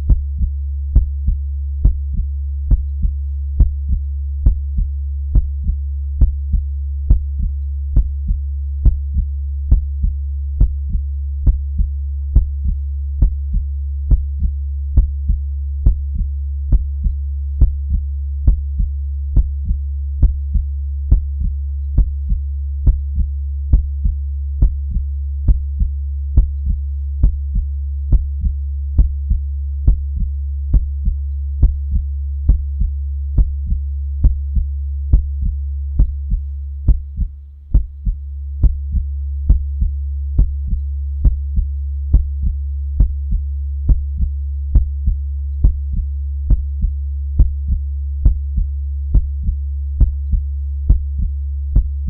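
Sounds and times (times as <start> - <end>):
continuous low hum: 0.0 - 52.0
heartbeat: 0.0 - 52.0.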